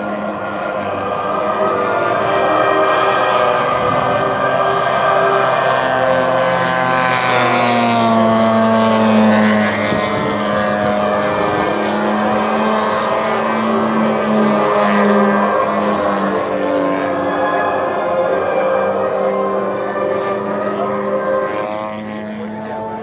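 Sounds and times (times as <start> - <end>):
model plane engine running hard: 0.0 - 23.0.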